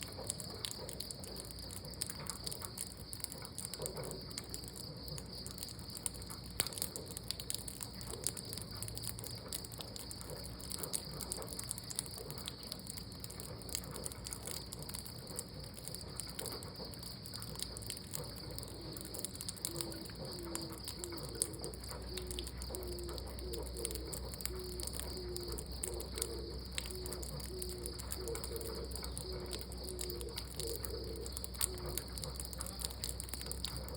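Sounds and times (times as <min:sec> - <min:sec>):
crickets chirring: 0:00.0 - 0:33.9
light clicks and ticks: 0:00.0 - 0:33.9.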